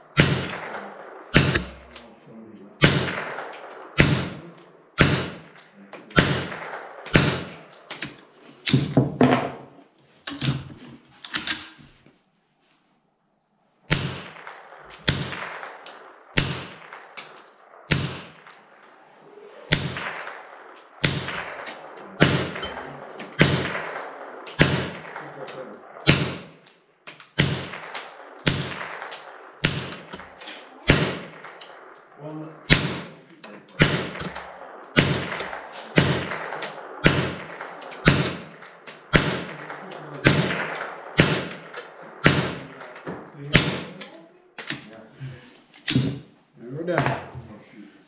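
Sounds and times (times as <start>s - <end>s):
rifle shots echoing: 0.0s - 9.7s, 13.9s - 45.0s, 45.8s - 46.3s.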